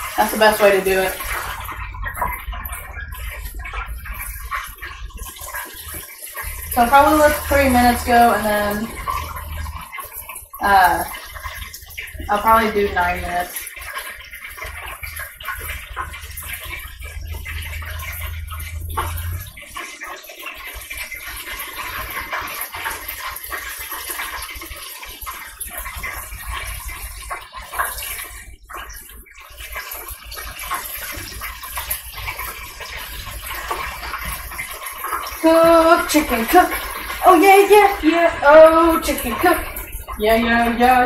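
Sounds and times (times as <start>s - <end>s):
oil sizzling and crackling: 0.0s - 41.0s.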